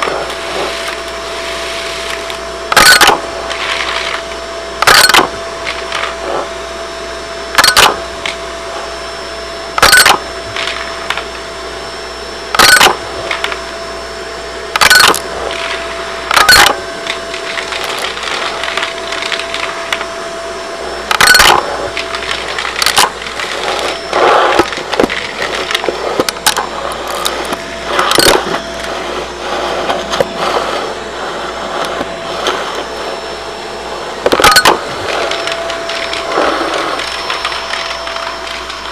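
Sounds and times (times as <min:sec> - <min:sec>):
vacuum cleaner humming: 0:00.0 - 0:38.9.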